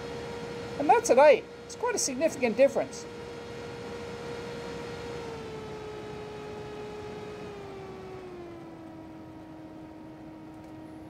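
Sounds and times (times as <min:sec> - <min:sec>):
cooling fan whine: 0:00.0 - 0:11.0.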